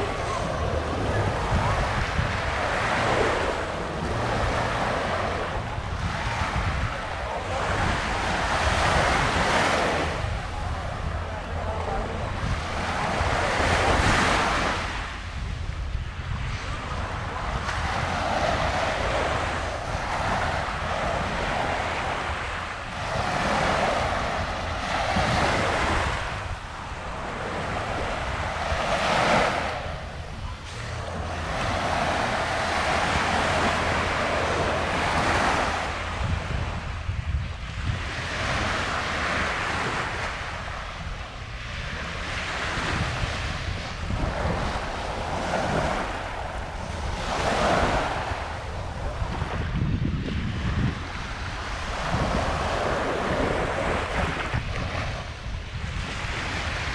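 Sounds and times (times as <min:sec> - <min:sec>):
waves washing onto sandy beach: 0:00.0 - 0:56.9
wind rumbling on microphone: 0:00.0 - 0:56.9.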